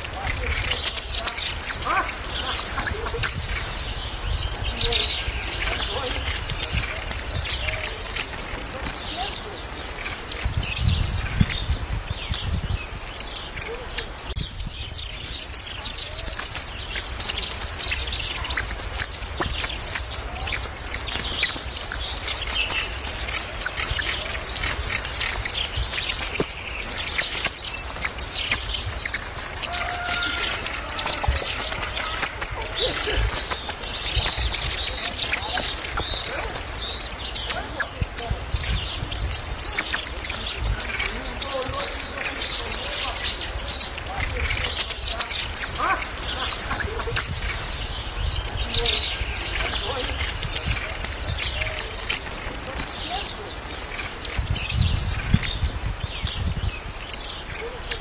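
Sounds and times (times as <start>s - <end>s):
bird singing high-pitched notes: 0.0s - 58.0s.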